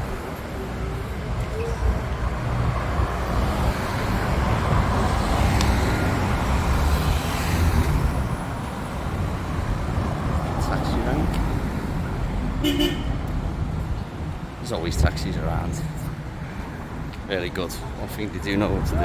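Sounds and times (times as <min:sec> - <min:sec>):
vehicles passing on street: 0:00.0 - 0:19.0.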